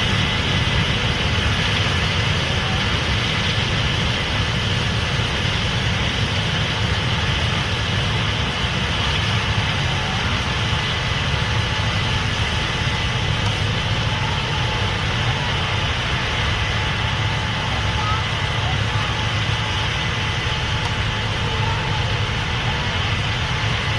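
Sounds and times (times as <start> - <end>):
diesel engine rumble: 0.0 - 23.9
threshing machinery whir and hiss: 0.0 - 23.9.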